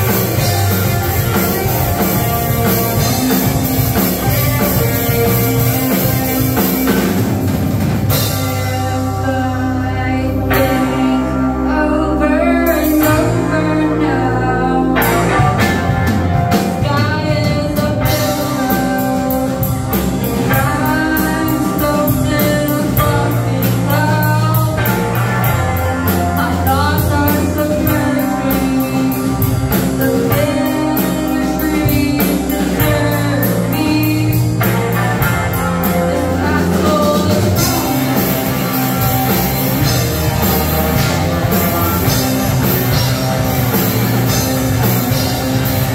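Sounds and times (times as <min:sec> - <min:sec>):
person singing: 0:00.0 - 0:07.2, 0:08.1 - 0:45.9
drum kit: 0:00.0 - 0:11.8, 0:12.4 - 0:45.9
bass guitar: 0:00.0 - 0:45.9
electric guitar: 0:00.0 - 0:45.9
keyboard: 0:00.0 - 0:45.9.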